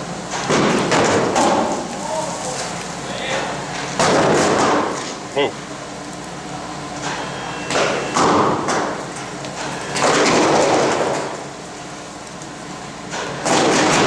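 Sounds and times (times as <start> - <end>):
molten metal popping and spattering: 0.2 - 14.0.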